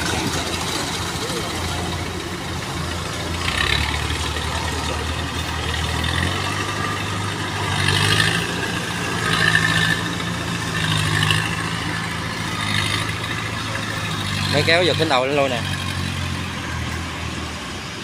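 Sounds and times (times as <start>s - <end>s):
combine harvester engine running: 0.0s - 18.0s.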